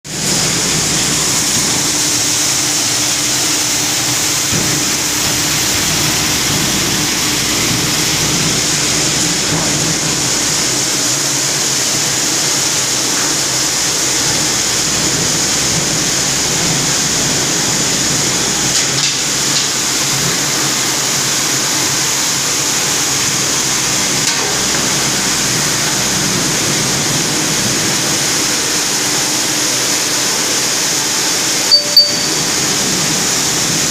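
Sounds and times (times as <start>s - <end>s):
grain cleaning machinery running: 0.1s - 31.6s.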